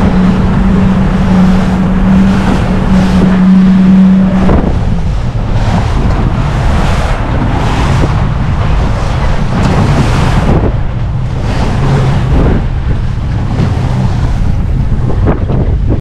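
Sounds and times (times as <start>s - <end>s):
boat engine drone: 0.0s - 16.0s
rushing spray and water: 0.0s - 16.0s
wind noise on microphone: 0.0s - 16.0s.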